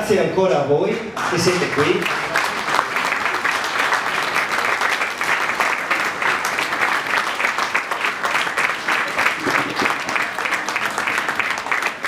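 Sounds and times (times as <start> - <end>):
crowd applauding: 1.2 - 12.0.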